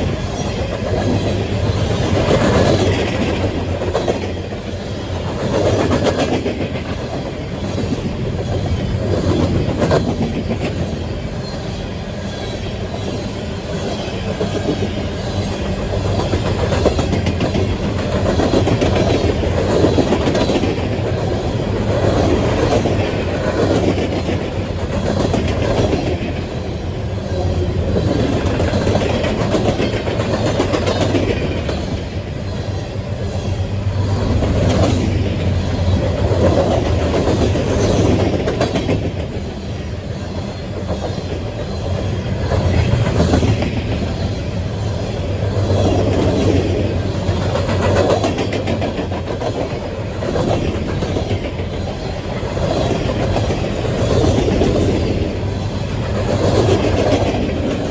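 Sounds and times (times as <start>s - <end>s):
train wheels clattering over rail joints: 0.0s - 57.9s.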